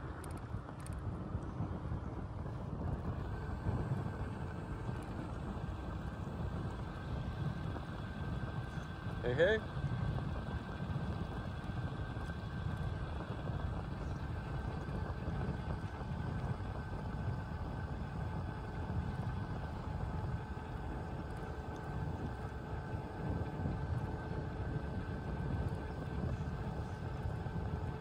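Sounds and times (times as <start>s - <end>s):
bicycle tyres rolling on concrete: 0.0s - 28.0s
wind rumble on microphone: 0.0s - 28.0s.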